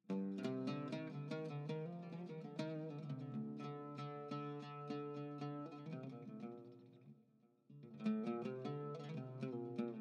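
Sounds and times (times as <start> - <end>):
plucked string melody: 0.1 - 10.0.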